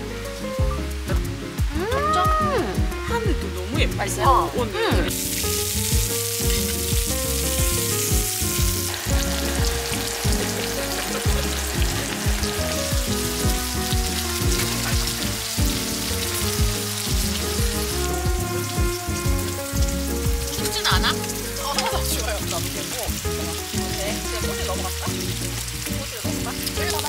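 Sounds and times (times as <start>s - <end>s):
background music with a beat: 0.0s - 27.0s
food sizzling in a pan: 0.0s - 27.0s.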